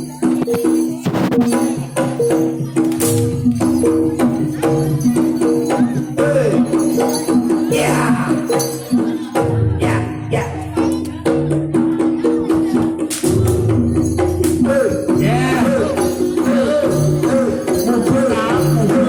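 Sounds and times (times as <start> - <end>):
drum strokes: 0.0 - 19.0
jingling percussion: 0.0 - 19.0
pitched percussion pattern: 0.0 - 19.0.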